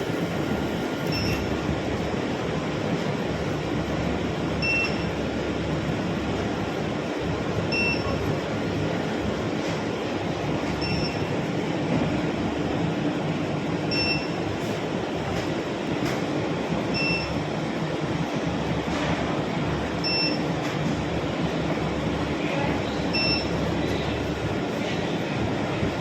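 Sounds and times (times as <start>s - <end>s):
induction furnace humming: 0.0s - 26.0s.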